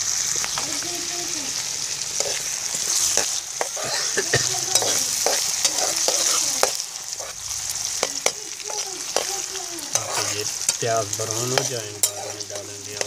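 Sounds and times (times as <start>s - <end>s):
onions sizzling in oil: 0.0s - 13.0s
metal spatula scraping pan: 2.2s - 13.0s.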